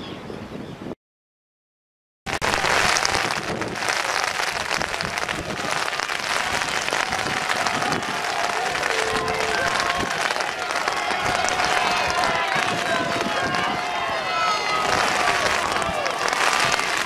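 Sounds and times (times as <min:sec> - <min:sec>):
wind noise on microphone: 0:00.0 - 0:01.0, 0:02.3 - 0:17.0
crowd applauding: 0:02.3 - 0:17.0.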